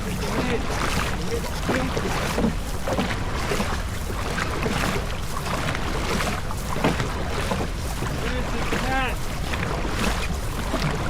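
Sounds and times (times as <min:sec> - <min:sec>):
rowing boat knocks and splashes: 0:00.0 - 0:11.0.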